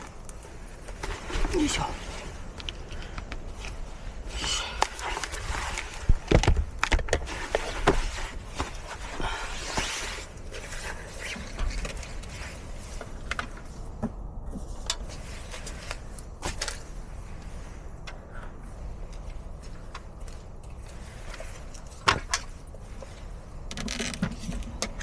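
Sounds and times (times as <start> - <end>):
gear rustling: 0.0 - 25.0.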